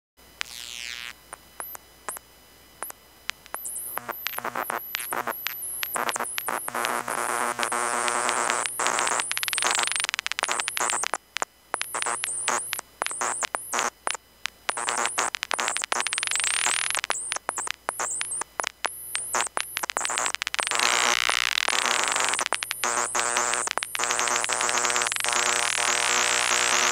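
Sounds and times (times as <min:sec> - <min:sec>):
harsh electronic clicks and buzzing: 0:00.2 - 0:26.9.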